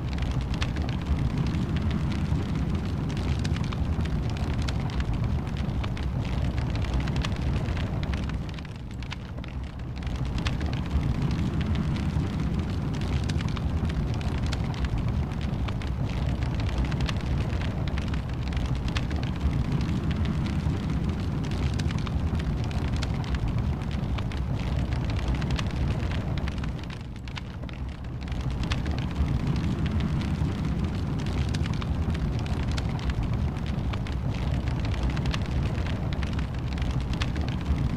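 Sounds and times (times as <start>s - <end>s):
low rumble of flames: 0.0s - 37.9s
wood fire crackling and popping: 0.0s - 37.9s.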